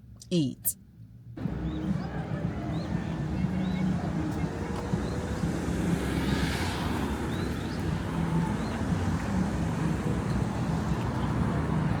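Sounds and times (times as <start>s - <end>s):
road vehicle rumble: 0.8s - 12.0s.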